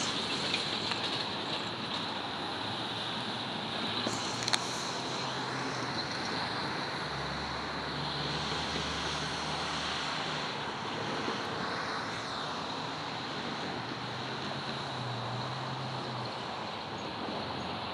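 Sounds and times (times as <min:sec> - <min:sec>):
train rumbling on rails: 0:00.0 - 0:17.9.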